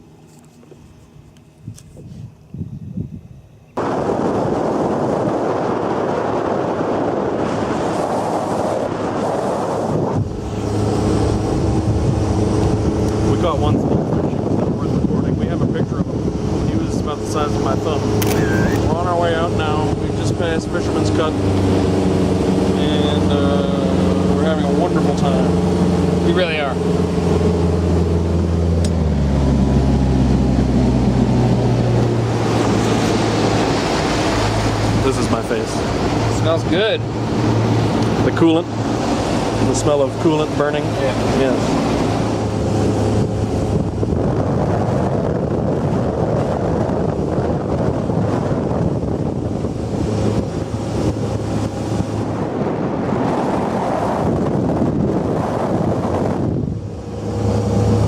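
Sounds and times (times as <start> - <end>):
boat engine droning: 0.0 - 58.0
wind rushing over microphone: 0.0 - 58.0
water noise from boat hull: 3.8 - 58.0.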